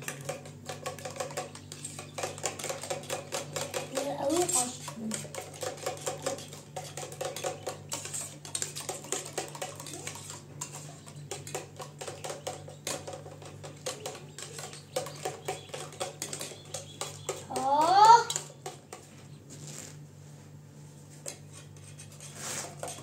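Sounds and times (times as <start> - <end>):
metal spoons clinking on bowls: 0.0 - 19.0.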